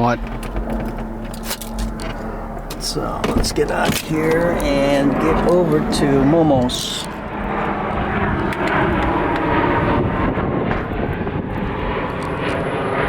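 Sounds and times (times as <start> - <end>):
airplane flying overhead: 0.0 - 13.0
street ambience: 0.0 - 13.0.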